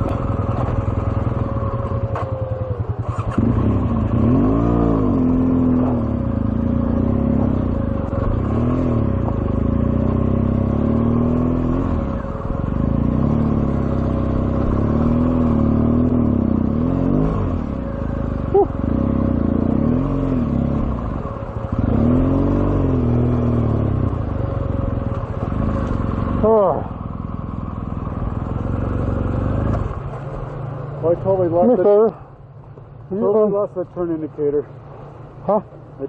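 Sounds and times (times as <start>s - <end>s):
motorcycle engine revving: 0.0s - 32.3s.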